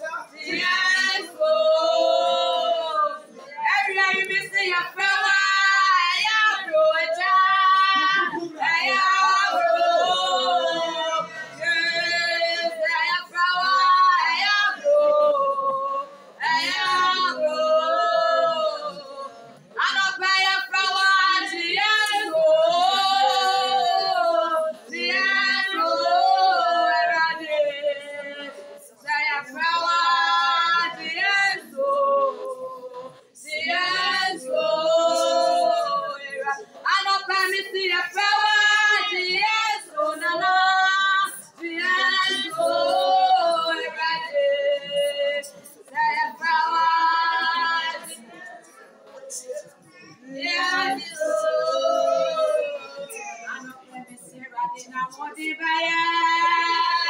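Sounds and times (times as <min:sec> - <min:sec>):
woman singing unaccompanied: 0:00.4 - 0:48.2, 0:50.3 - 0:57.0.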